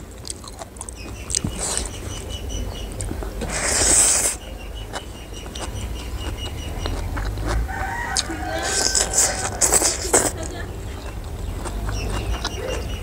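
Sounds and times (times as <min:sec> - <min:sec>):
rapid high chirping: 0:00.8 - 0:13.0.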